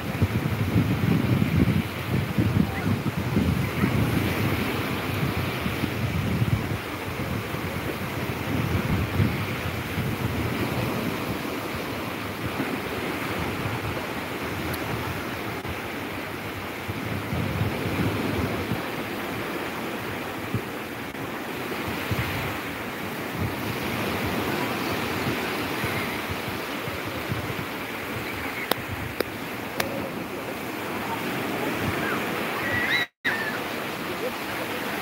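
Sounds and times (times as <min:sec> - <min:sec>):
small waves breaking on shore: 0:00.0 - 0:35.0.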